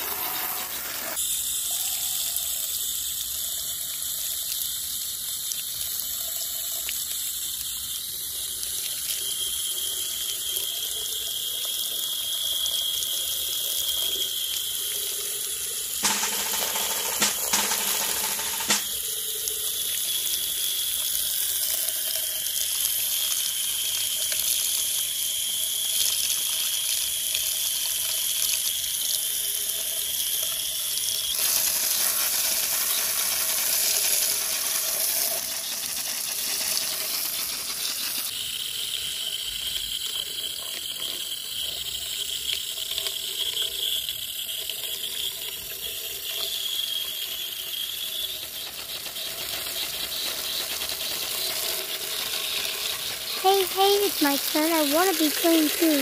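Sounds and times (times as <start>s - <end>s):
hose nozzle spraying water: 0.0s - 56.0s.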